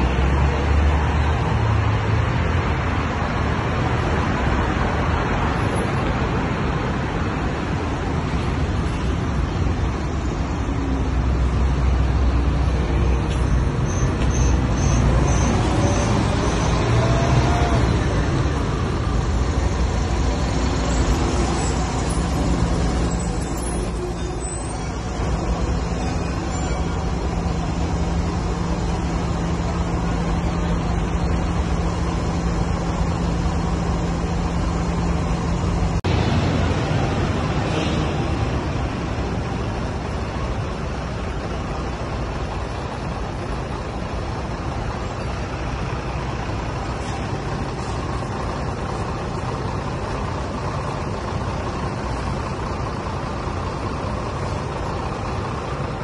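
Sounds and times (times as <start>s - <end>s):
bus engine: 0.0s - 56.0s
cars driving past: 0.0s - 56.0s.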